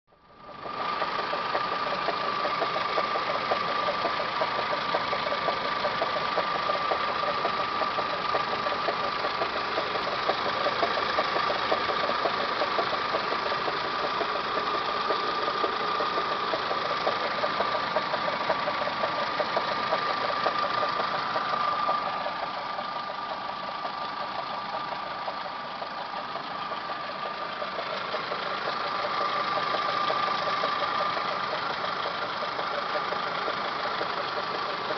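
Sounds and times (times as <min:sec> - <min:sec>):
car engine idling: 0:00.1 - 0:34.9
fast engine ticking: 0:00.1 - 0:34.9.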